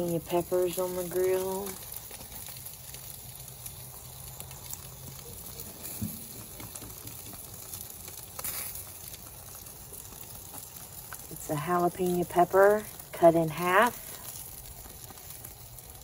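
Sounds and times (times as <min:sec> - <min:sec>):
faint crackles: 0:00.0 - 0:16.0
food sizzling on a grill: 0:00.0 - 0:16.0.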